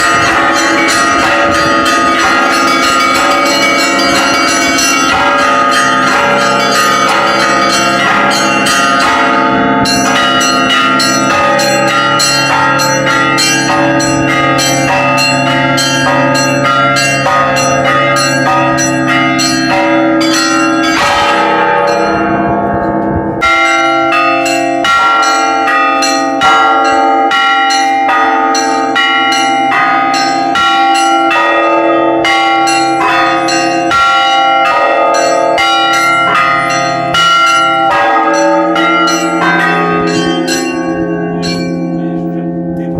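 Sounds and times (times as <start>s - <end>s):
small high bells striking rapidly: 0.0s - 22.6s, 23.4s - 42.9s
deep large bell strokes: 0.0s - 42.9s.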